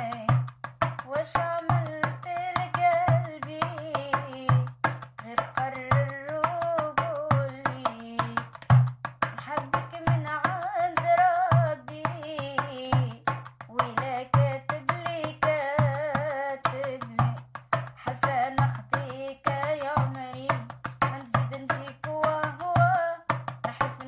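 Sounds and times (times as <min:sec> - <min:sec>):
woman singing with ornaments: 0:00.0 - 0:08.6, 0:09.3 - 0:24.0
hand percussion rhythm: 0:00.0 - 0:24.0.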